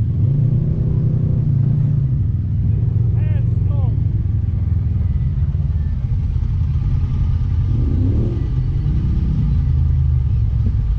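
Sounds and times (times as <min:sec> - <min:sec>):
engine idling: 0:02.0 - 0:10.9.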